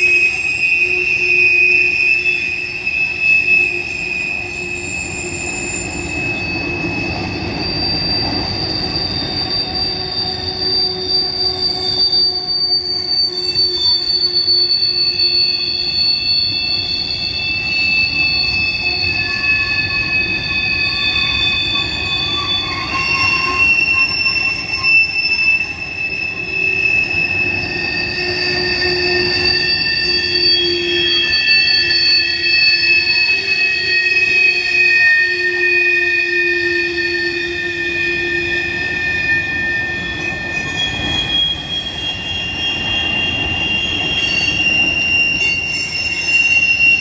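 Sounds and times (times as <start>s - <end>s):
rumble of passing train cars: 0.0s - 47.0s
train wheels squealing: 0.0s - 47.0s.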